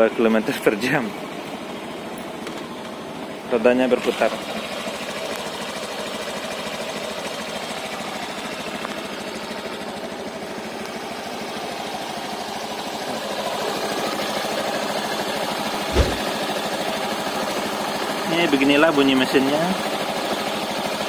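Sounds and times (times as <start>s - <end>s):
scooter engine idling: 0.0s - 21.0s.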